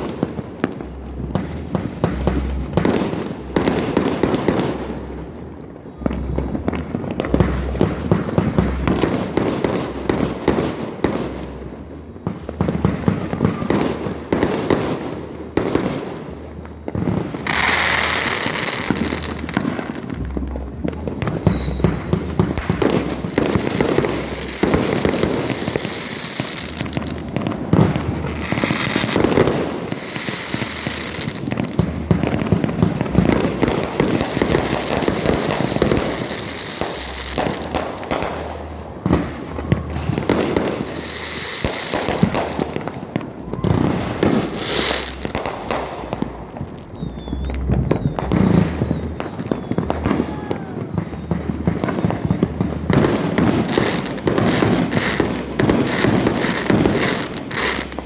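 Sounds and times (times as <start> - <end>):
faint firework whistles: 0.0 - 58.0
fireworks bangs and crackling: 0.0 - 58.0.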